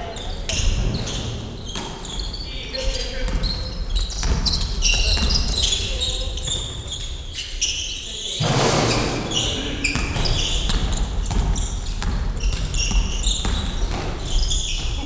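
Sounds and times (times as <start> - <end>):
sneakers squeaking: 0.0 - 15.0.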